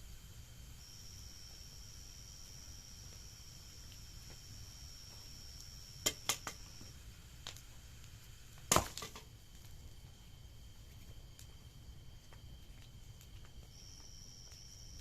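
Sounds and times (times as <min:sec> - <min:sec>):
crickets trilling: 0:00.0 - 0:15.0
bonfire cracking and popping: 0:00.3 - 0:15.0.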